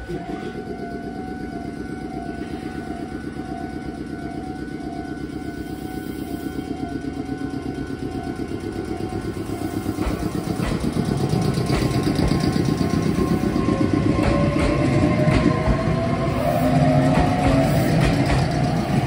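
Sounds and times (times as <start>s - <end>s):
electric train running: 0.0s - 19.0s
train motor whine: 0.0s - 19.0s.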